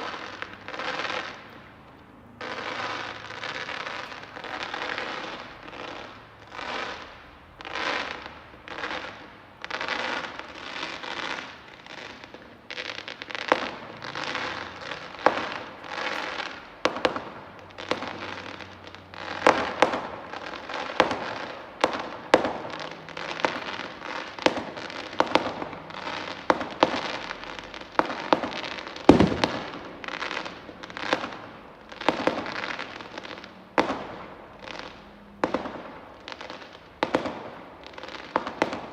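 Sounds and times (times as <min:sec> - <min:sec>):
fireworks crackling: 0:00.0 - 0:38.9
fireworks sharp bangs: 0:00.0 - 0:38.9.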